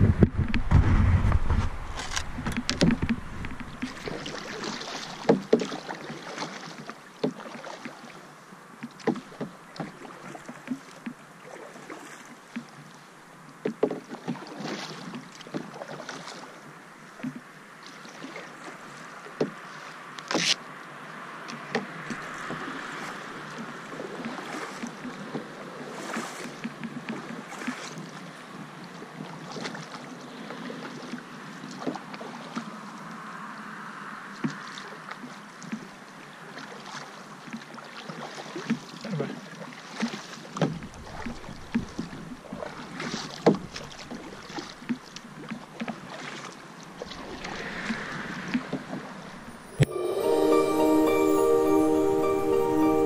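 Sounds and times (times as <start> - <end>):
paddle strokes swishing and dripping: 0.2 - 20.6, 21.5 - 33.1, 34.3 - 49.9.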